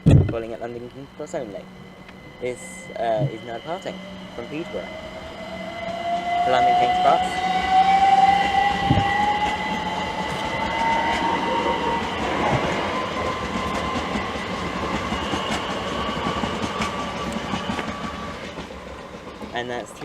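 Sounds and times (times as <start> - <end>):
electric train motor whine: 0.0 - 20.0.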